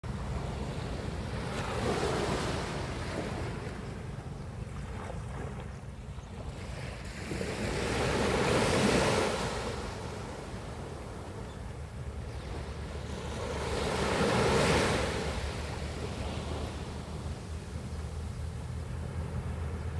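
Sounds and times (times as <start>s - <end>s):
ocean waves washing on shore: 0.0s - 19.9s.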